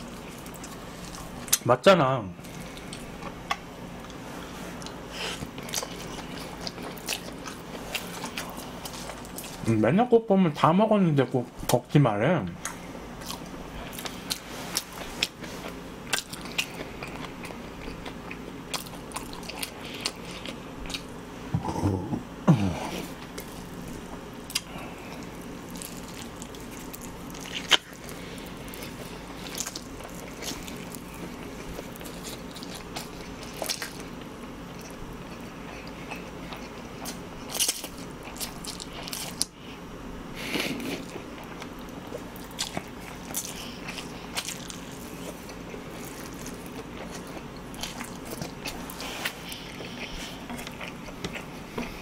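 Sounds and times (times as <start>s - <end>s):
chewing: 2.4s - 9.7s, 12.6s - 21.7s, 22.9s - 39.6s, 40.4s - 52.0s.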